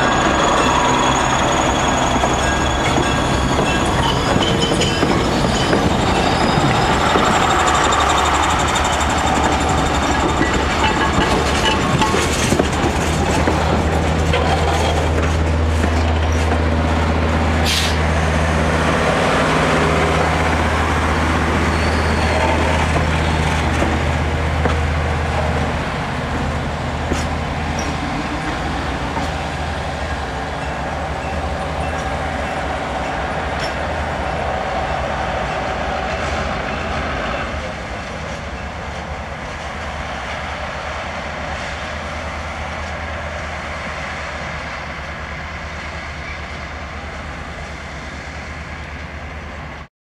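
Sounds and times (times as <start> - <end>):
steel wheels rumbling on rails: 0.0 - 49.9.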